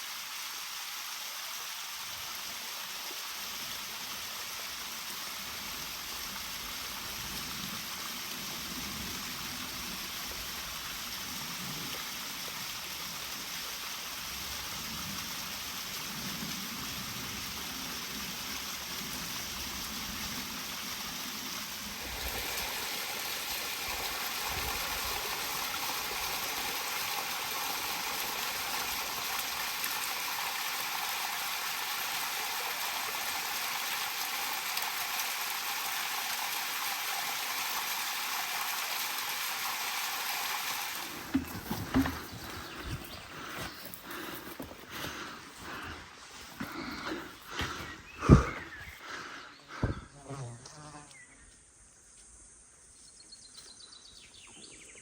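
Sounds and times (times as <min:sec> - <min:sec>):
water rushing: 0:00.0 - 0:50.0.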